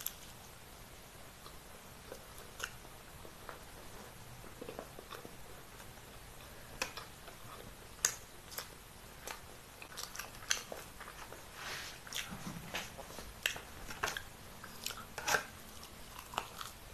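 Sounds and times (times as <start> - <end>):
person chewing food: 1.4 - 16.9.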